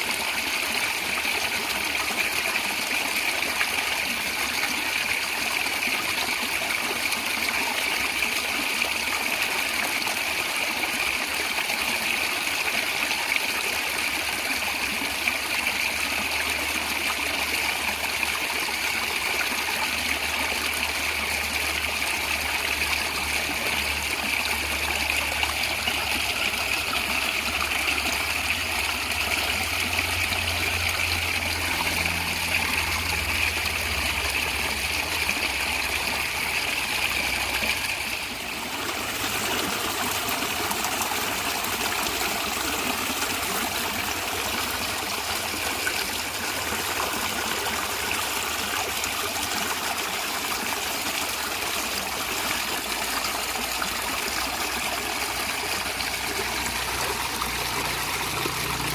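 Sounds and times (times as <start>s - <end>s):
stream water gurgling: 0.0s - 58.9s.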